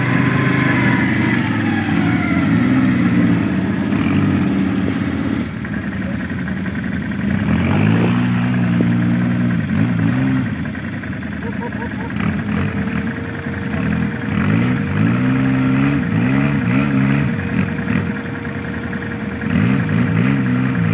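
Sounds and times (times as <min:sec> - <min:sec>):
atv engines revving: 0:00.0 - 0:20.9.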